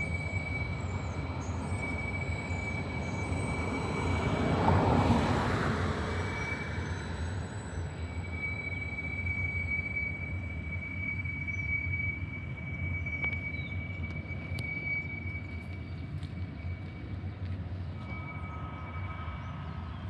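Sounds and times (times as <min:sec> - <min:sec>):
freight train rumbling past: 0:00.0 - 0:20.0
thin high whine: 0:00.0 - 0:20.0.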